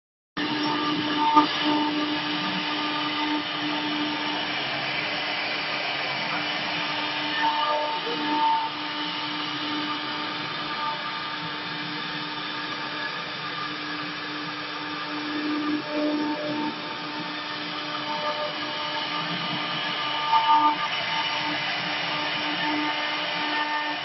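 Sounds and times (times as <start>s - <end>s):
cnc router motors whining hum: 0.4s - 24.0s
router bits cutting wood hiss: 0.4s - 24.0s.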